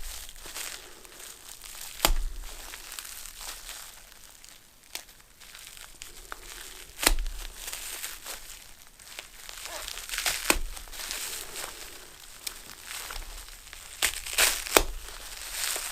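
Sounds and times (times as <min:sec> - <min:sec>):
packaging crinkling: 0:00.0 - 0:15.9.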